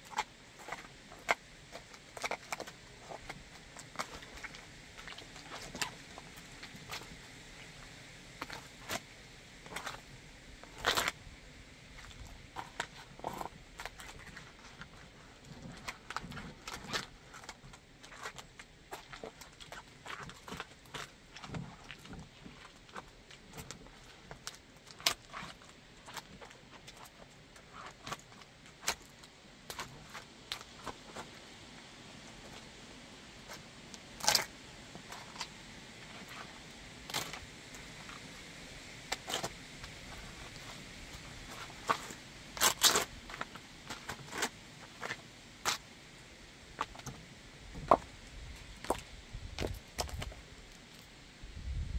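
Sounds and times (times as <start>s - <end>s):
shoes crunching wet crackles: 0.1s - 11.2s, 11.9s - 31.6s, 33.4s - 45.9s, 46.7s - 47.2s, 47.8s - 51.1s.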